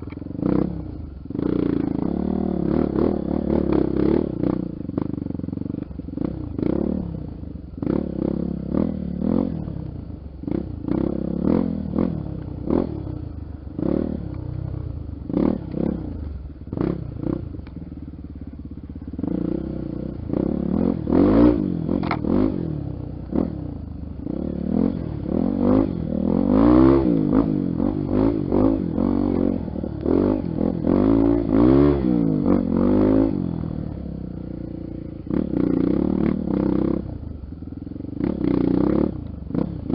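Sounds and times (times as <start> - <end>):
dirt bike engine revving: 0.0 - 5.1, 6.2 - 9.8, 10.4 - 17.5, 19.2 - 37.2, 38.2 - 39.9.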